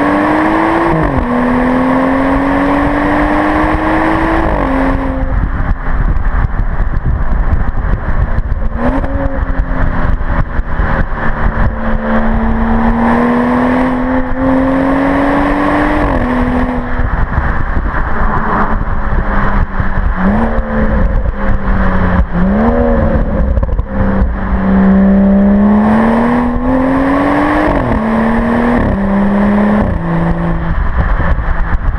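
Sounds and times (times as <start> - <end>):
car engine accelerating: 0.0 - 31.9
wind rumble on microphone: 0.0 - 31.9.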